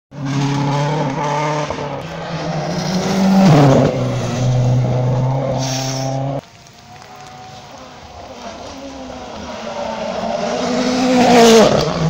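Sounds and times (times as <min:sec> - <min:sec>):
rally car engine at full throttle: 0:00.1 - 0:06.4, 0:07.0 - 0:12.0.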